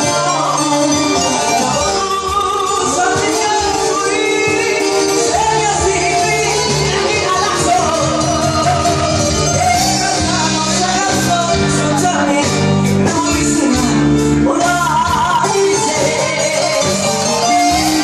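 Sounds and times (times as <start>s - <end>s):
loud band music: 0.0s - 18.0s
person singing: 0.0s - 18.0s.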